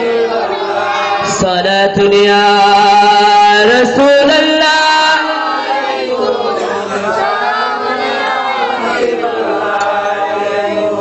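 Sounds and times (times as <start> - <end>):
group chanting in chorus: 0.0 - 11.0.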